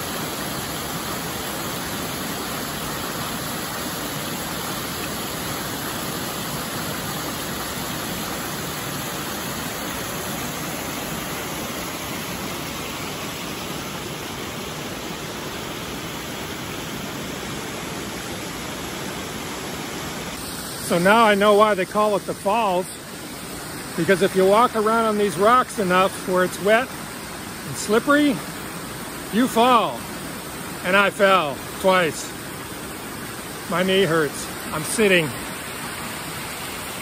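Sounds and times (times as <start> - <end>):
waterfall rushing over rocks: 0.0 - 37.0.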